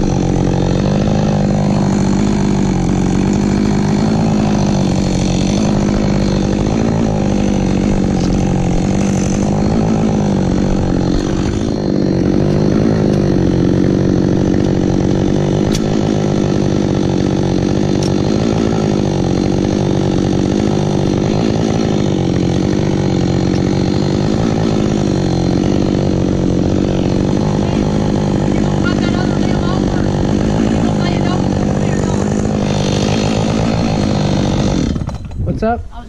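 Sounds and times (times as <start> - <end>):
chainsaw running at high revs: 0.0 - 35.5.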